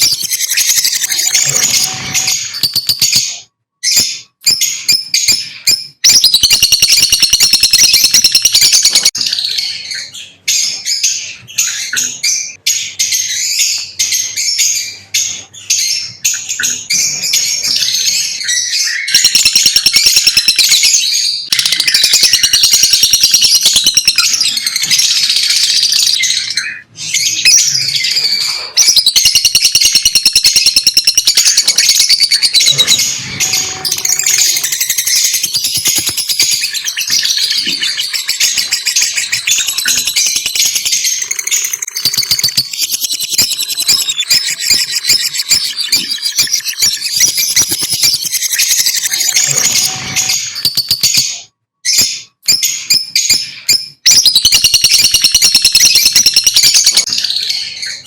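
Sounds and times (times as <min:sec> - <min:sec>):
lovebirds chattering: 0:00.0 - 0:58.0.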